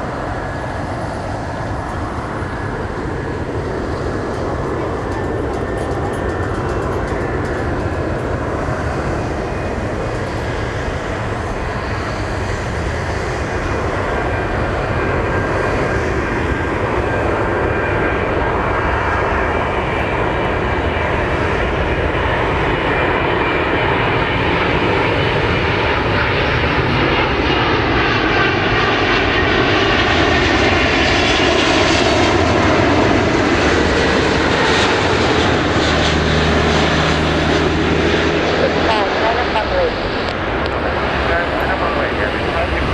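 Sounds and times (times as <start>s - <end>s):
jet engines droning: 0.0s - 42.9s.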